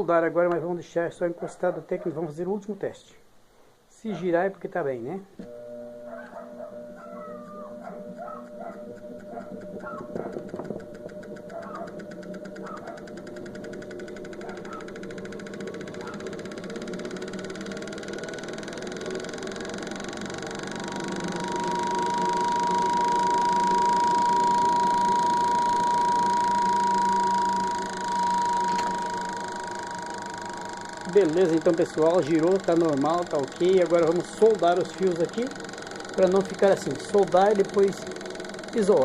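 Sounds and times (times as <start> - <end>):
spin dryer motor whining: 5.4 - 39.0.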